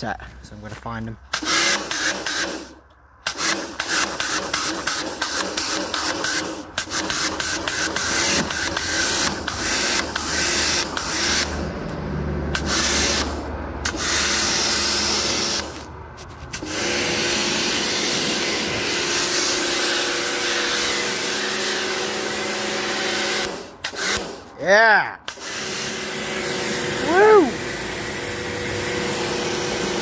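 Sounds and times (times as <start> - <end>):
pressure washer spraying water: 1.3 - 11.7, 12.6 - 15.9, 16.5 - 24.6, 25.3 - 30.0.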